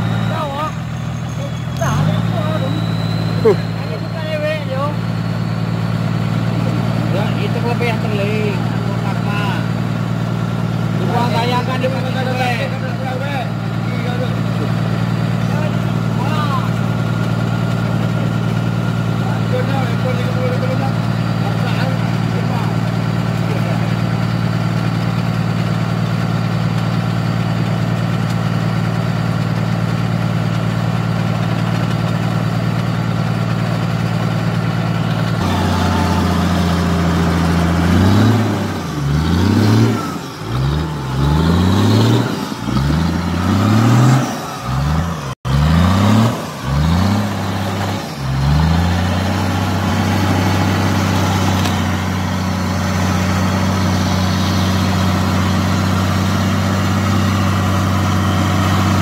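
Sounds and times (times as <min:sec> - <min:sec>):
engine idling and revving: 0:00.0 - 0:59.0.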